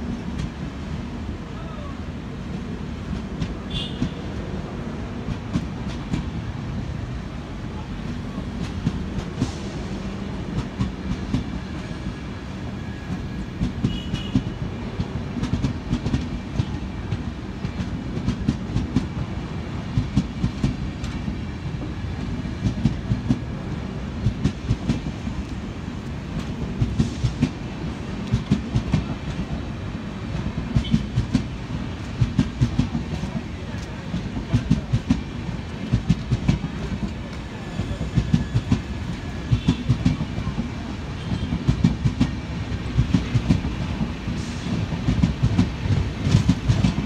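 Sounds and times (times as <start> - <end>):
train coaches rumbling past: 0.0 - 47.0.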